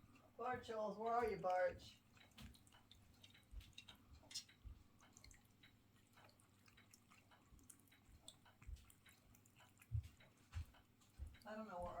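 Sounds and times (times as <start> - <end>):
water dripping from fountain: 0.0 - 12.0
water ticks: 0.0 - 12.0.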